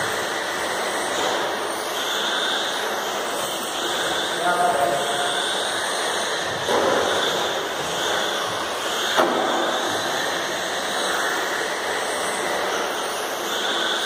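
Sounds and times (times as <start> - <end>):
toy car motor whine: 0.0 - 14.0.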